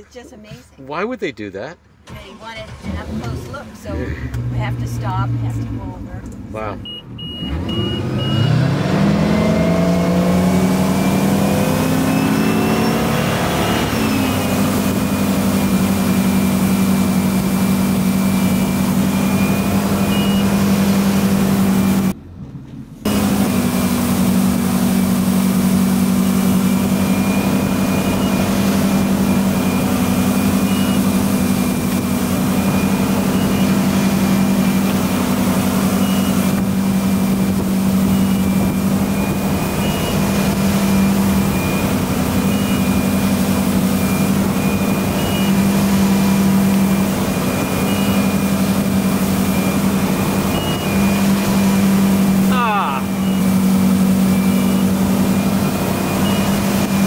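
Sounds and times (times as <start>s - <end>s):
boat engine accelerating: 2.1s - 57.0s.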